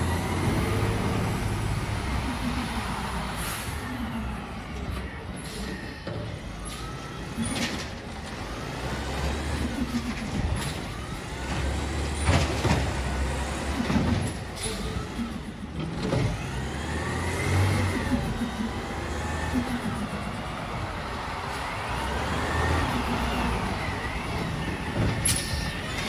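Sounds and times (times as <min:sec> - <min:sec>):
garbage truck engine running: 0:00.0 - 0:26.0.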